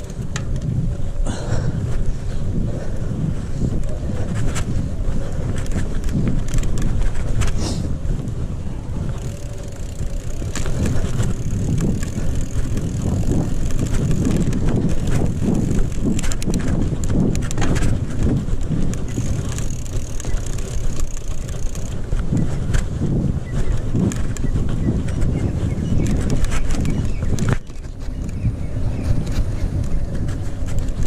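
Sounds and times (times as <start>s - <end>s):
bike rattling over bumps: 0.0s - 31.0s
wind on microphone: 0.0s - 31.0s
tyres on gravel: 3.3s - 31.0s.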